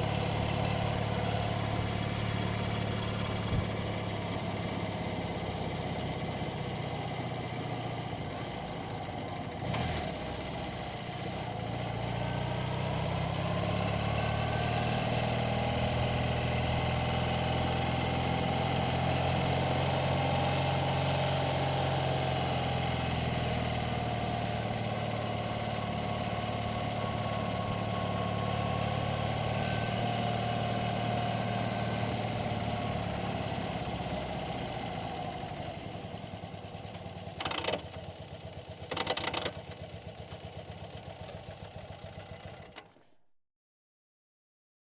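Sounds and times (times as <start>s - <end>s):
motorcycle engine running: 0.0s - 42.8s.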